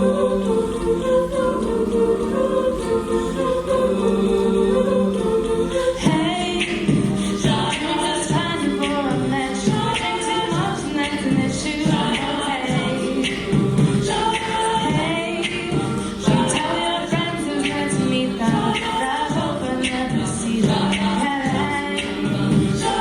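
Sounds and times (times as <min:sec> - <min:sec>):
a cappella group singing: 0:00.0 - 0:23.0.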